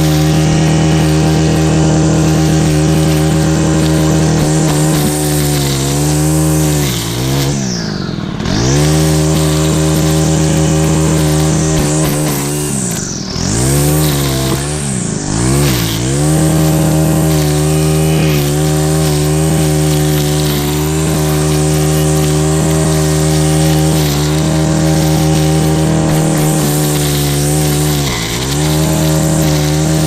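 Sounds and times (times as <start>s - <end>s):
engine running at high speed: 0.0s - 30.0s.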